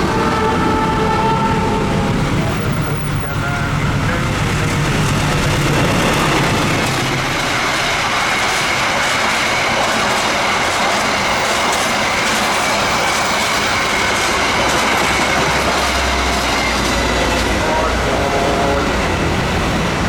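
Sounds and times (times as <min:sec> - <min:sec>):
train carriages rolling past: 0:00.0 - 0:20.0
train engine hum: 0:00.0 - 0:20.0
wheels clacking over rail joints: 0:00.0 - 0:20.0.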